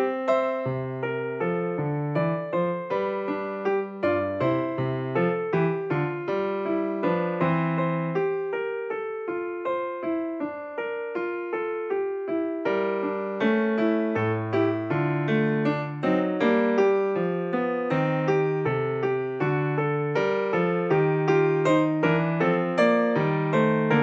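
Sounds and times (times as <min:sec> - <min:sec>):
gentle electric piano: 0:00.0 - 0:24.0.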